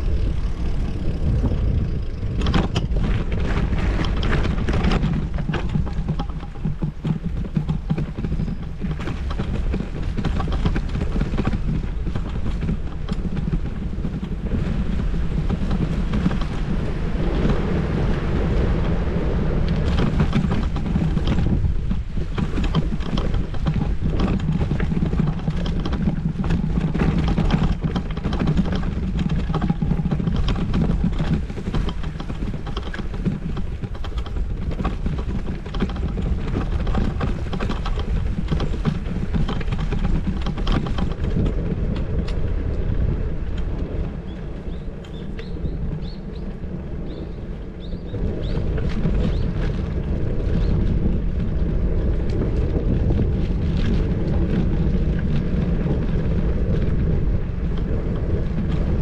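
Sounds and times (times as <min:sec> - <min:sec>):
small clicks and rattles: 0:00.0 - 0:18.9, 0:19.6 - 0:59.0
road rumble: 0:00.0 - 0:59.0
wind buffeting: 0:00.0 - 0:59.0.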